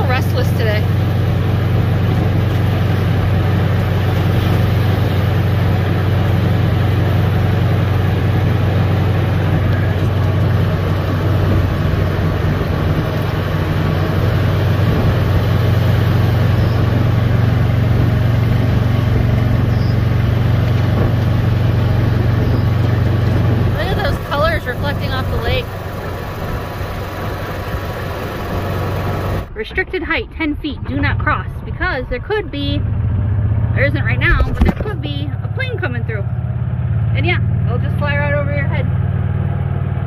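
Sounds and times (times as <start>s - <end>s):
golf cart rumbling: 0.0s - 40.0s
tyre road noise: 0.0s - 40.0s.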